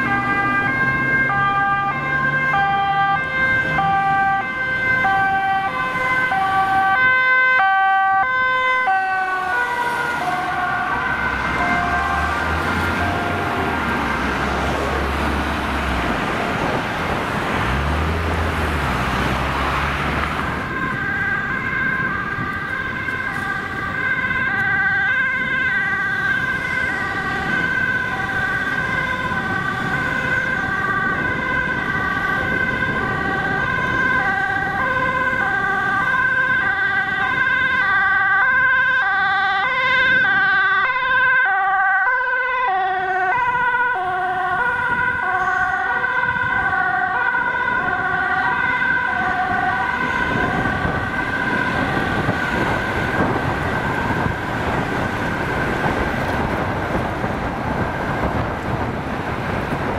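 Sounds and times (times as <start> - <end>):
ambulance two-tone siren: 0.0 - 17.1, 18.6 - 57.1
road traffic noise: 0.0 - 59.9.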